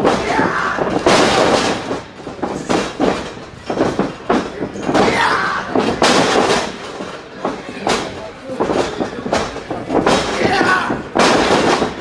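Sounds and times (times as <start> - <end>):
bodies slamming onto ring canvas: 0.0 - 12.0.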